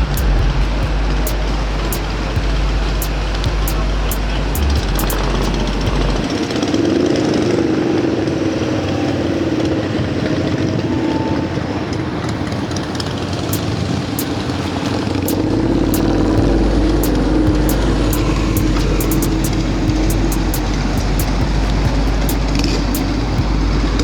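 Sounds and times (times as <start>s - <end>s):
large engine droning: 0.0s - 24.0s.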